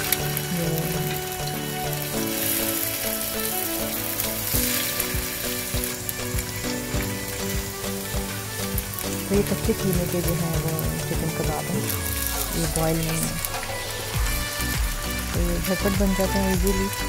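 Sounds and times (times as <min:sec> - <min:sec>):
patties sizzling in a pan: 0:00.0 - 0:17.0.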